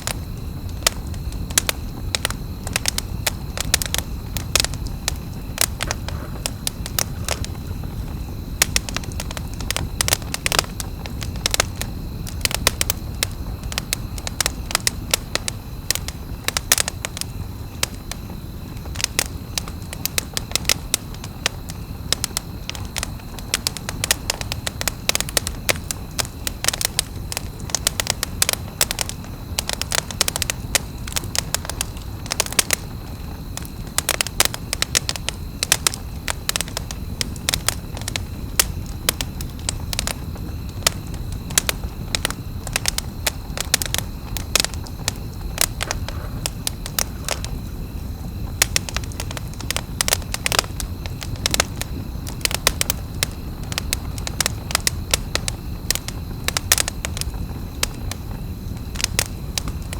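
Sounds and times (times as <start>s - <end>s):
campfire crackling and popping: 0.0s - 59.9s
low rush of burning: 0.0s - 59.9s.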